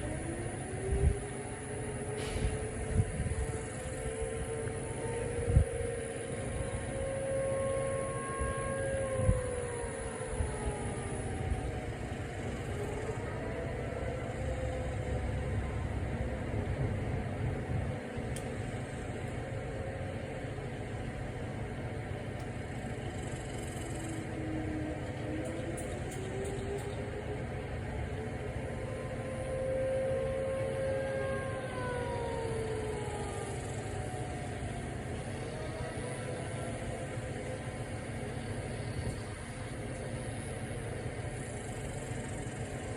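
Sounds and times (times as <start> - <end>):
steady low rumble: 0.0 - 42.9
warning sirens winding down: 0.0 - 42.9.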